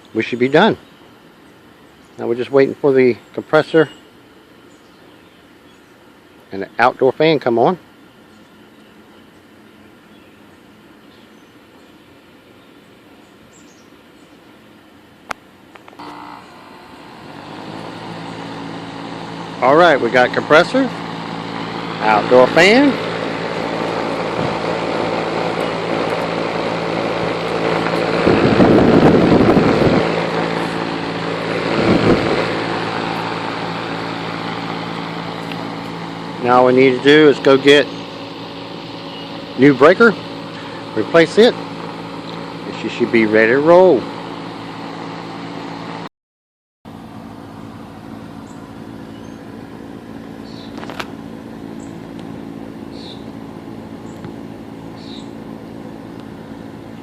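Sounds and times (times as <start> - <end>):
air conditioning unit hum: 0.0 - 46.1, 46.9 - 57.0.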